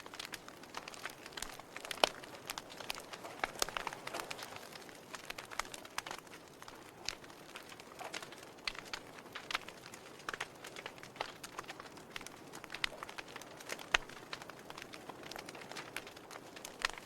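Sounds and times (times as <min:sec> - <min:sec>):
logs crackling and popping: 0:00.0 - 0:17.0
soft steady fire hiss: 0:00.0 - 0:17.0.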